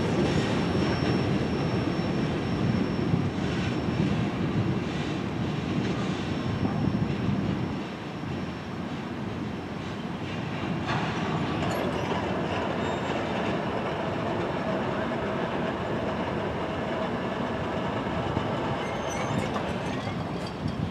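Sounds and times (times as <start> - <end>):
freight train wheels rumbling on track: 0.0 - 20.9.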